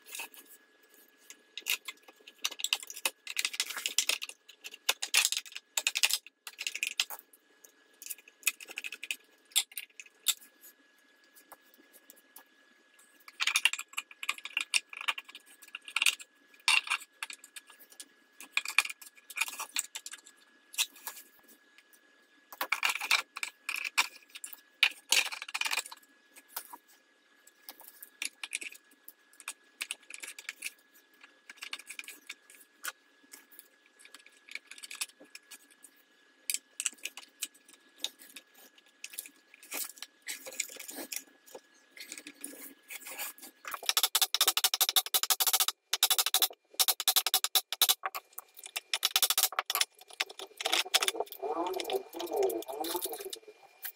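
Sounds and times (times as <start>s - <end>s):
plastic gears clicking and clattering: 1.3s - 10.6s, 13.2s - 21.3s, 22.5s - 26.8s, 27.6s - 35.9s, 36.5s - 53.9s.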